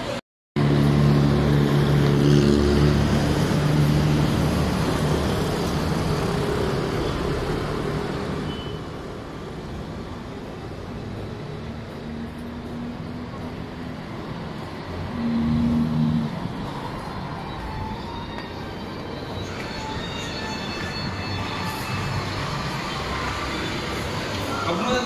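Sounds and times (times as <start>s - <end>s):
steady road noise: 0.0s - 25.0s.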